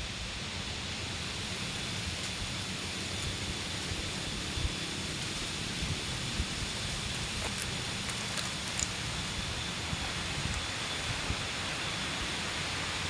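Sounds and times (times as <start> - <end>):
strong wind through plants: 0.0 - 13.0
wind gusts rumbling on microphone: 1.2 - 13.0.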